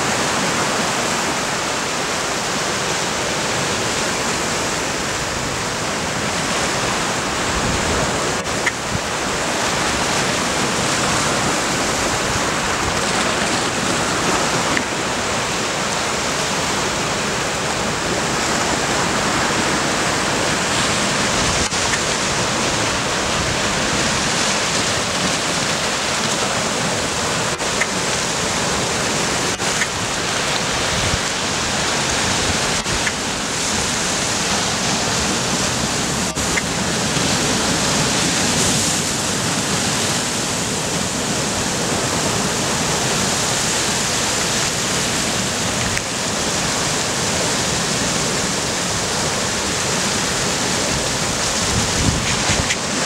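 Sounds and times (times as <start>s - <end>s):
sea waves breaking over rocks: 0.0s - 53.0s.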